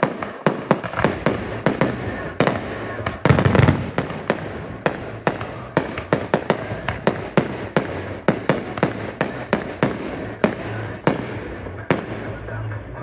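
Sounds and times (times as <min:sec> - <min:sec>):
fireworks bangs with echo: 0:00.0 - 0:13.0.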